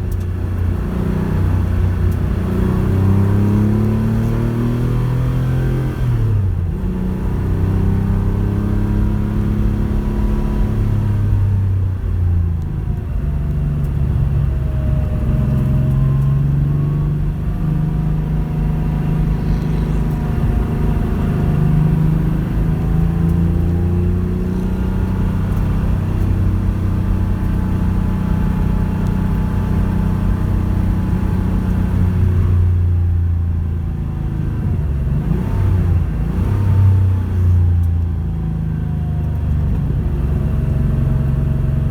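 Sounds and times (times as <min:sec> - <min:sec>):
rally car engine running: 0:00.0 - 0:41.9.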